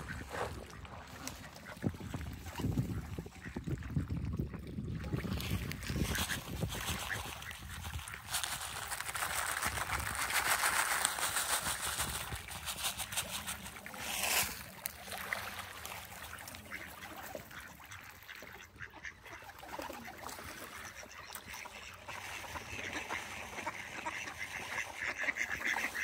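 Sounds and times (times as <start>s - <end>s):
ducks quacking: 0.0s - 11.0s, 12.1s - 26.0s
ducks splashing on water: 0.0s - 26.0s.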